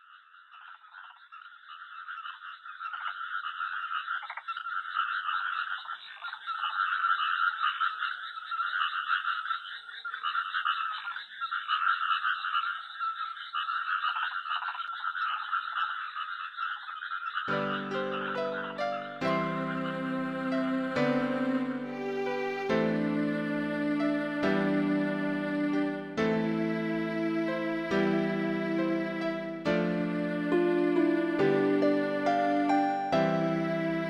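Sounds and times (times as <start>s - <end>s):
tree frogs croaking: 0.0s - 34.0s.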